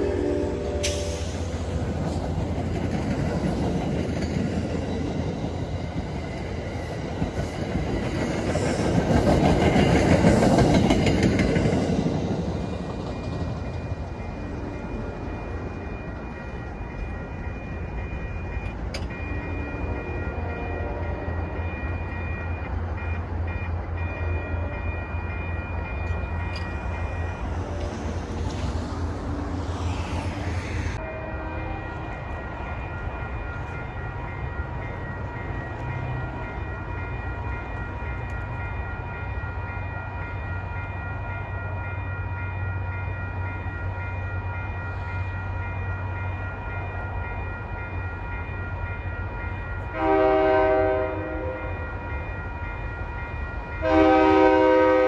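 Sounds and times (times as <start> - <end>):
train clickety-clack: 0.0 - 31.1, 31.7 - 55.0.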